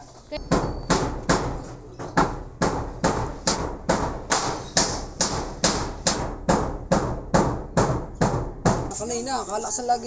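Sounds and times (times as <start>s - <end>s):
steady sharp knocks: 0.4s - 9.0s.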